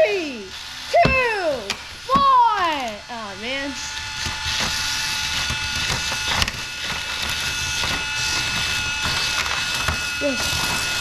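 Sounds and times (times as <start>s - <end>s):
small electric motors whining: 0.0s - 11.0s
plastic toys rattling and clattering: 0.9s - 11.0s.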